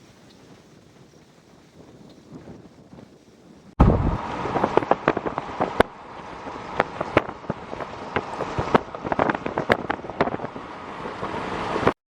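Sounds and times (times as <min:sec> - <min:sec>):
wind rushing: 0:00.0 - 0:11.9.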